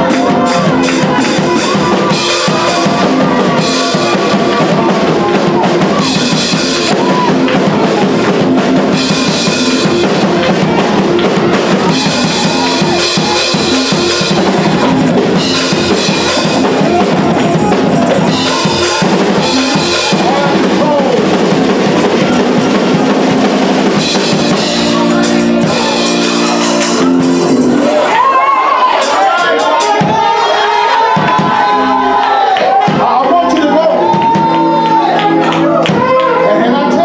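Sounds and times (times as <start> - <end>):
drum kit beat: 0.0 - 36.4
live band music: 0.0 - 37.0.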